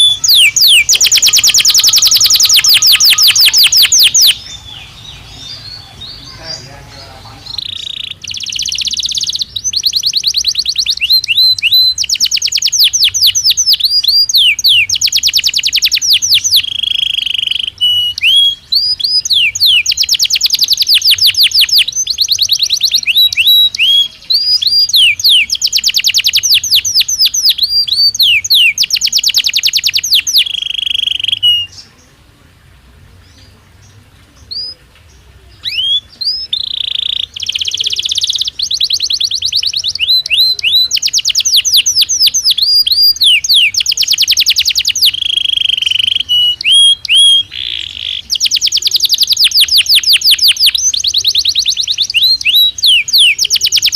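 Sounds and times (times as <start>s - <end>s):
canary singing trills: 0.0s - 32.2s, 33.2s - 53.9s.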